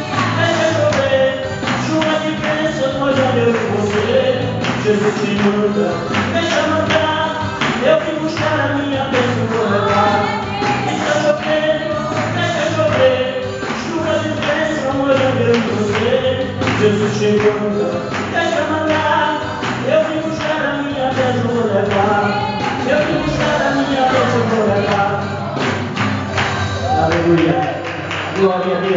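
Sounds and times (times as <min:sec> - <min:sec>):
man singing into a microphone: 0:00.0 - 0:25.8, 0:26.8 - 0:28.9
backing music with steady beat: 0:00.0 - 0:28.9.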